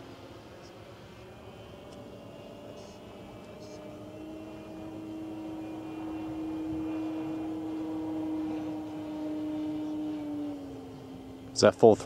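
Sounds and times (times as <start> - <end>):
model airplane engine: 0.0 - 12.0.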